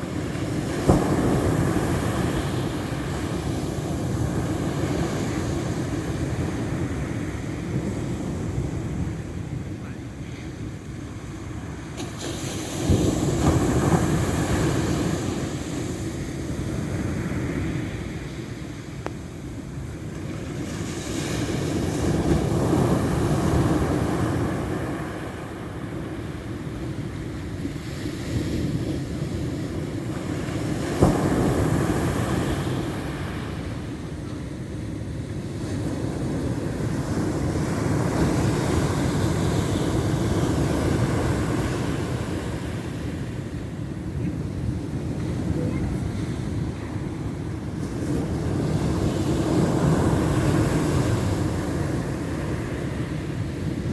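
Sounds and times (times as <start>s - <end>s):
waves breaking: 0.0s - 53.9s.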